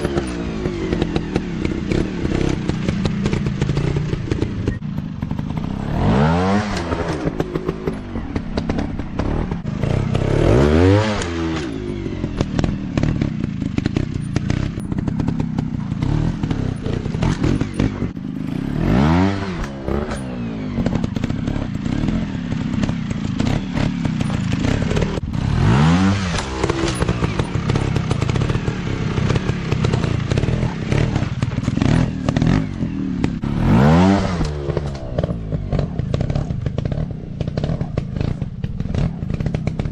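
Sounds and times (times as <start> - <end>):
constant clatter: 0.0 - 39.9
dirt bike engines revving: 0.0 - 39.9.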